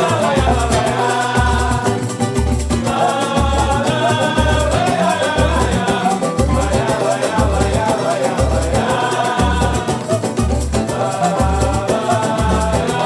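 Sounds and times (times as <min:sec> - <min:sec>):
deep drum beats: 0:00.0 - 0:13.0
light shaker percussion: 0:00.0 - 0:13.0
samba melody: 0:00.0 - 0:13.0.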